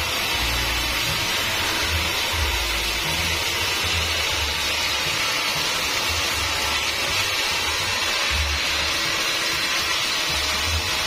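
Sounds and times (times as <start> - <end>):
bandsaw hissing through log: 0.0 - 11.0
music with pulsing bass: 0.0 - 11.0.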